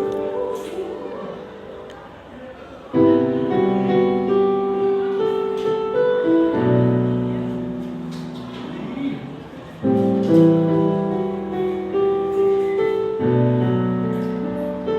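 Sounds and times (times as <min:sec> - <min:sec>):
slow piano piece: 0:00.0 - 0:14.9.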